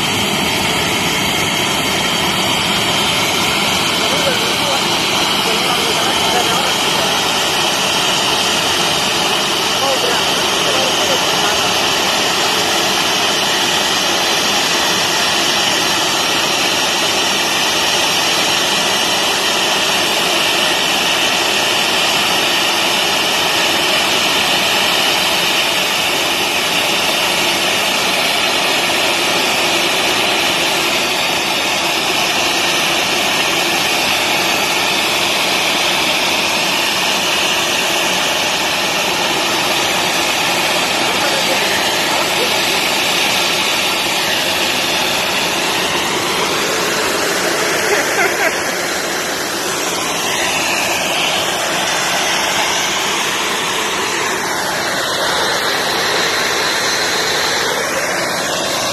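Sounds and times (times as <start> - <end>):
jet turbine whine: 0.0 - 58.9.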